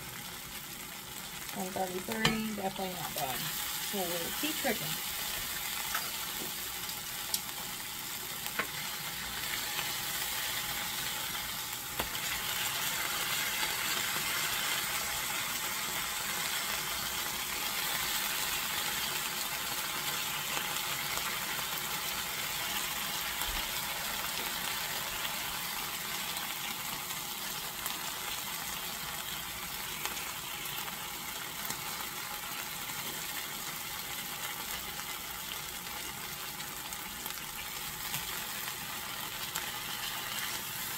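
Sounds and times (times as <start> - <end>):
steaks sizzling in oil: 0.0 - 40.9.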